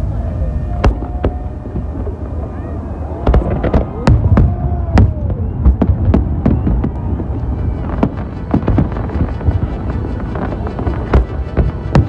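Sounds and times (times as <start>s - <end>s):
low rumble: 0.0s - 12.0s
fireworks bursting bangs: 0.6s - 12.0s.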